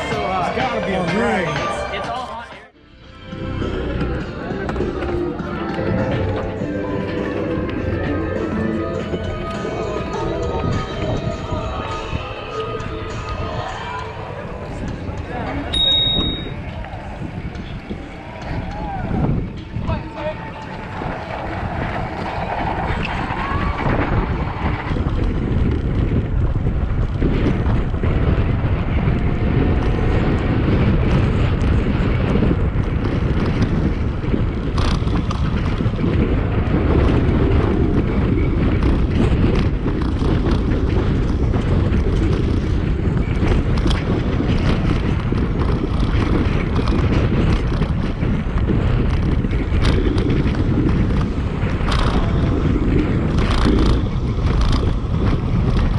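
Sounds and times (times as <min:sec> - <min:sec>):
wind rushing over microphone: 0:02.7 - 0:55.9.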